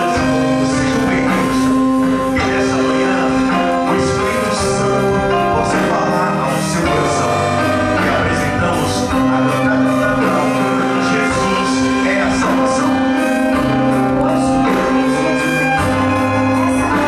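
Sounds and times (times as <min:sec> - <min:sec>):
electric guitar: 0:00.0 - 0:17.0
saxophones: 0:00.0 - 0:17.0
violins: 0:00.0 - 0:17.0.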